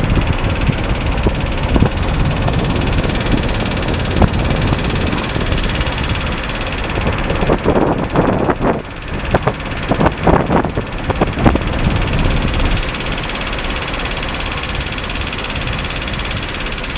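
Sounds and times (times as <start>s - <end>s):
car engine and road rumble: 0.0s - 16.9s.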